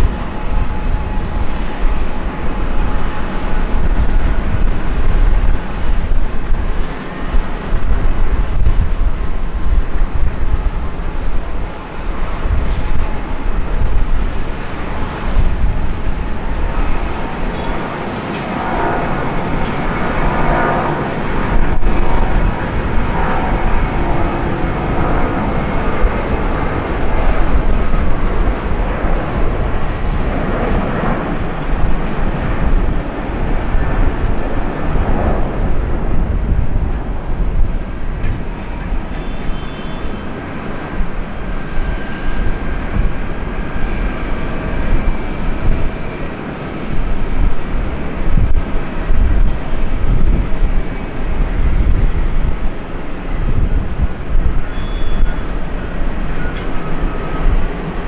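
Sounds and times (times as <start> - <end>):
jet engine roar with whine: 0.0 - 58.0.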